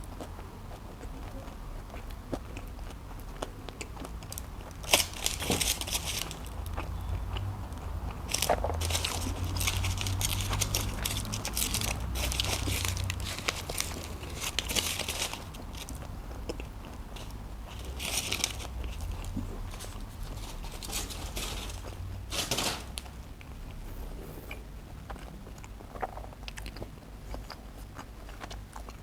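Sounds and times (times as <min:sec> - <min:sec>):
biting and wet chewing: 0:00.0 - 0:29.0.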